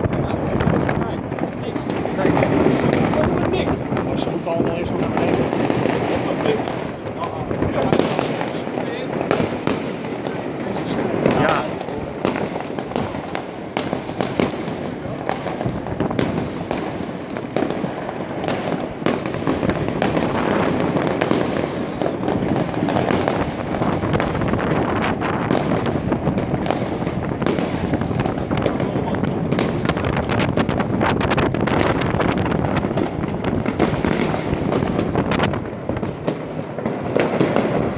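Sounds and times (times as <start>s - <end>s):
distant fireworks bangs: 0.0s - 37.9s
firecrackers cracking: 0.0s - 37.9s.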